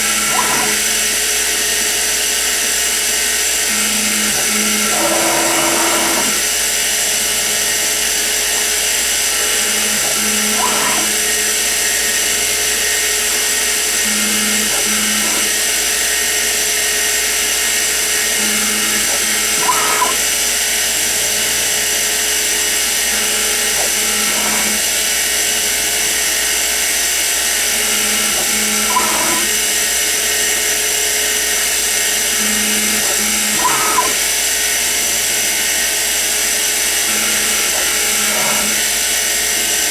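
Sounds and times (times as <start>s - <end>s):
milling machine whining: 0.0s - 39.9s.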